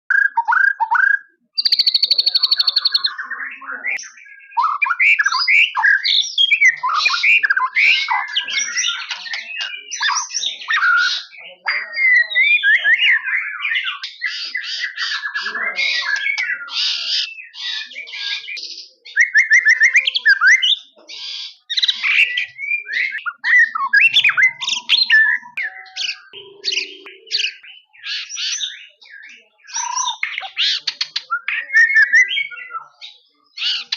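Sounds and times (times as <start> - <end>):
songbird whistling and trilling: 0.1 - 33.9.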